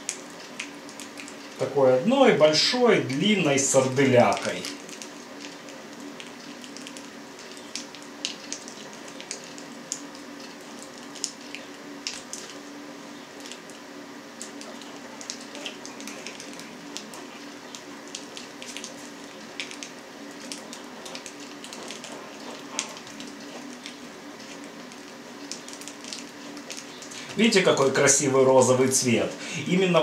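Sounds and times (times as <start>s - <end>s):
sausage meat crackling: 0.0s - 30.0s.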